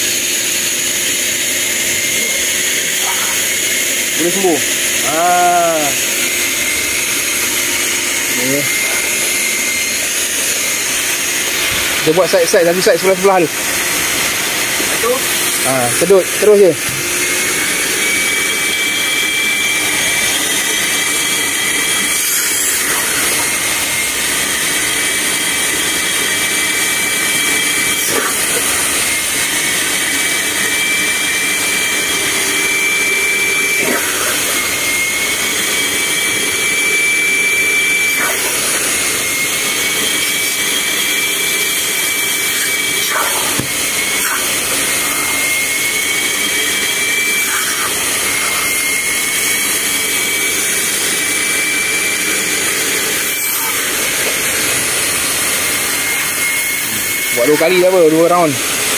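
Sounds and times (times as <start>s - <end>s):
high airflow whistle: 0.0s - 58.9s
vacuum extraction machine running: 0.0s - 58.9s.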